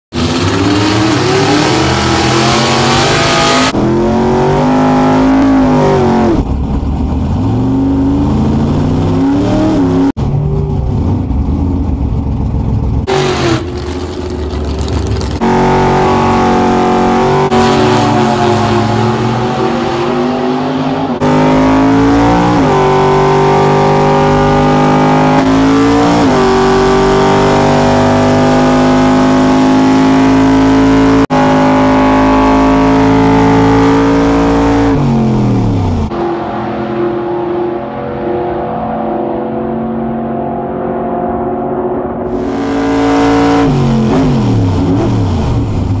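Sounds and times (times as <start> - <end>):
drag car engine revving: 0.1 - 46.0.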